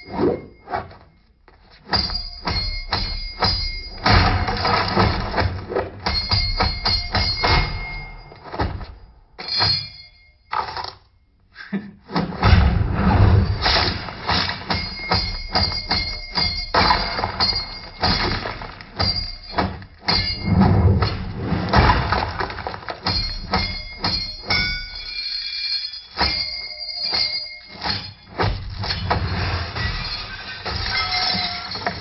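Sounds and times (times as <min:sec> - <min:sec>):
sharp knocks with metallic ringing: 0:01.9 - 0:10.8, 0:13.6 - 0:32.0.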